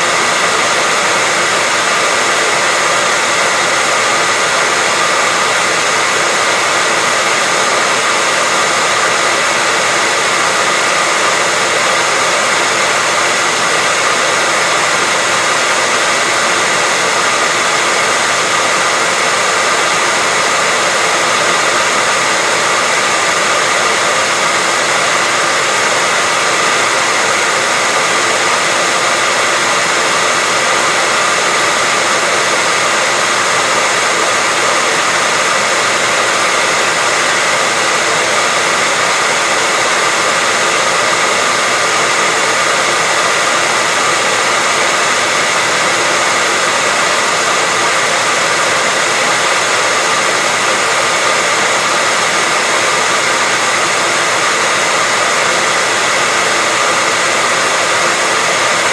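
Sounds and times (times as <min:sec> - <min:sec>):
hair dryer blowing air: 0:00.0 - 0:58.9.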